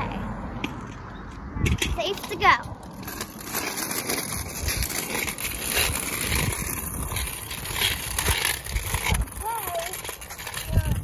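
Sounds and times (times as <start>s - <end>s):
scooter wheels rolling on asphalt: 0.0s - 11.0s
wind buffeting microphone: 1.0s - 3.4s, 4.0s - 11.0s.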